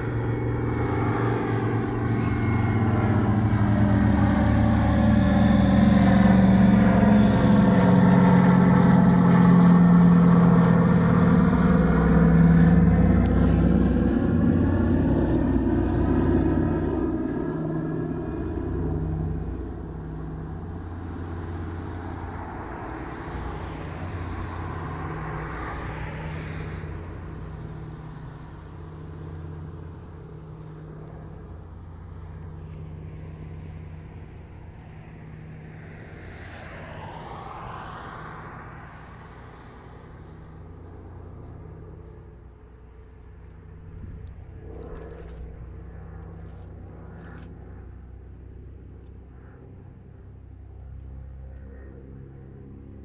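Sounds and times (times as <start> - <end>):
propeller plane engines droning: 0.0 - 53.0
road vehicles swishing past: 0.0 - 53.0.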